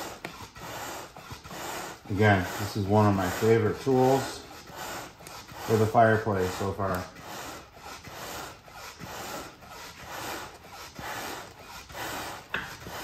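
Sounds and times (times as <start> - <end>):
hand bellows puffing air: 0.0 - 13.0.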